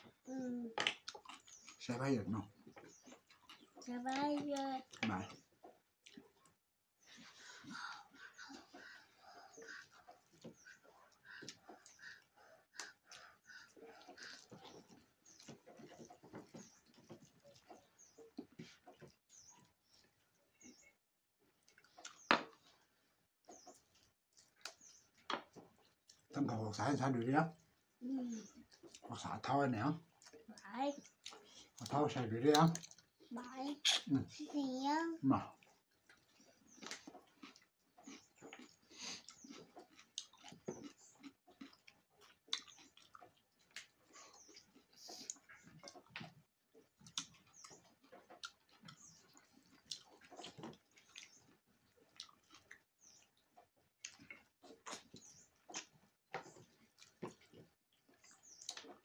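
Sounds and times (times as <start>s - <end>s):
chewing and wet mouth noises: 0.0s - 34.5s, 35.2s - 59.0s.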